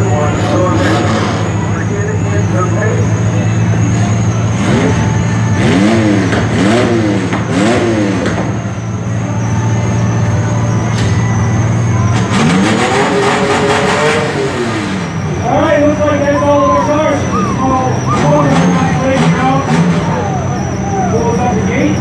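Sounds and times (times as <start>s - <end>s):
vehicle engine idling and revving: 0.0s - 22.0s.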